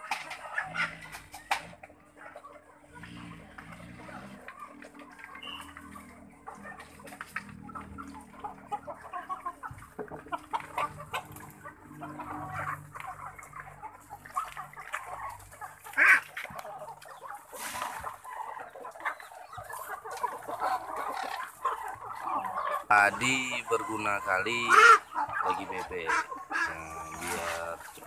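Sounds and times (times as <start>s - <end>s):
poultry clucking and calling: 0.0s - 28.0s.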